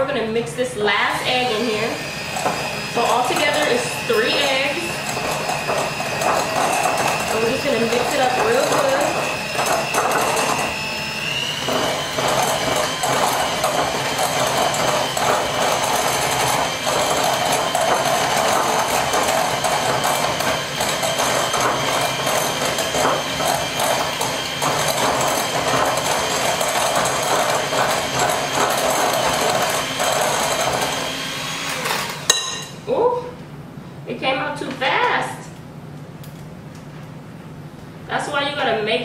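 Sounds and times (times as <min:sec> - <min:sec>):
electric hand mixer whine: 0:01.0 - 0:32.4.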